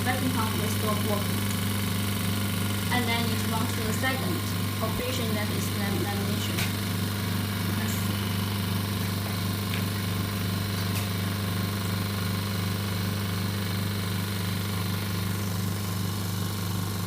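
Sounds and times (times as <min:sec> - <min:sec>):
vacuum pump humming and pulsing: 0:00.0 - 0:17.0.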